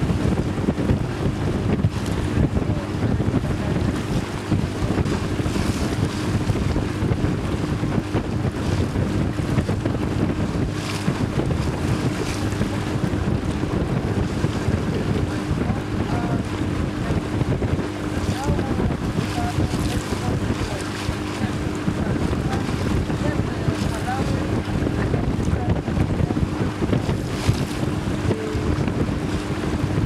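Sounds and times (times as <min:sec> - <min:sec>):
boat motor humming: 0:00.0 - 0:30.0
choppy water splashing: 0:00.0 - 0:30.0
wind buffeting microphone: 0:00.0 - 0:30.0.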